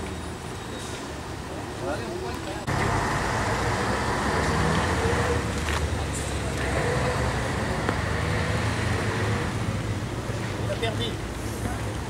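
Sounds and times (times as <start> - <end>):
road traffic drone: 0.0 - 12.0.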